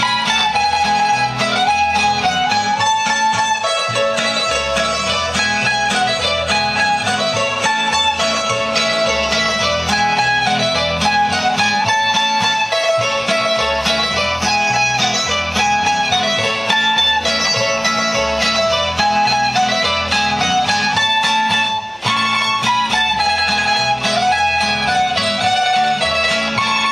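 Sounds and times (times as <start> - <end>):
folk dance music on plucked strings: 0.0 - 26.9.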